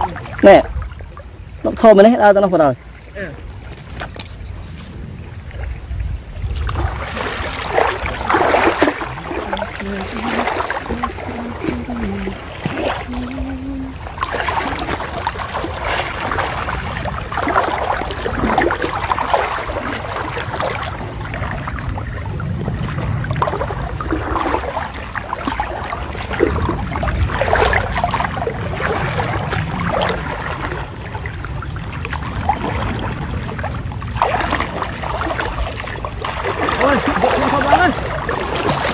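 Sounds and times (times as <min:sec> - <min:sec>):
floodwater sloshing: 0:00.0 - 0:38.9.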